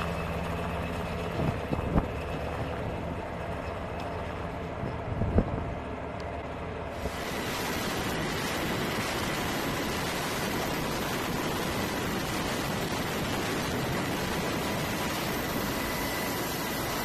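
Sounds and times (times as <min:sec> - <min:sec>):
helicopter wind and rotor noise: 0:00.0 - 0:17.0.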